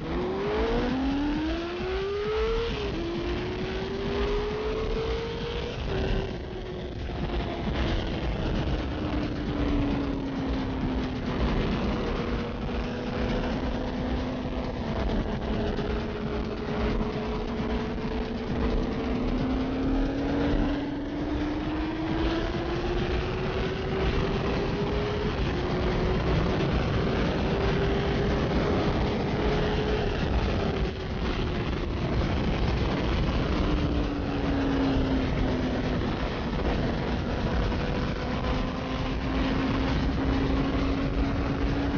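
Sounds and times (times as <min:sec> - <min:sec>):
motorcycle engine at speed: 0:00.0 - 0:41.9
wind rush: 0:00.0 - 0:41.9.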